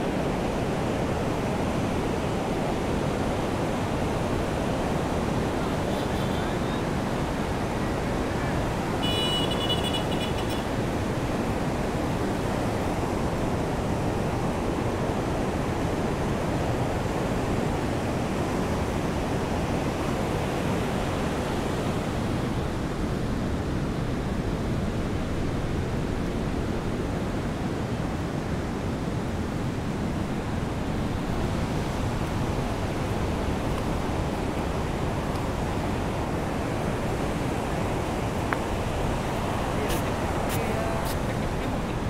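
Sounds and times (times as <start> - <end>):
surf breaking on a beach: 0.0 - 9.5, 10.7 - 42.0.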